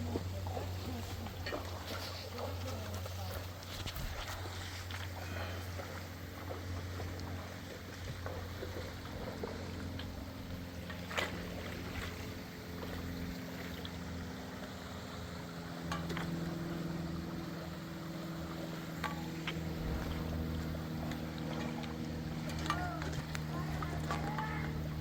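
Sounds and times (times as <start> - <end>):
distant engine humming: 4.4 - 25.0.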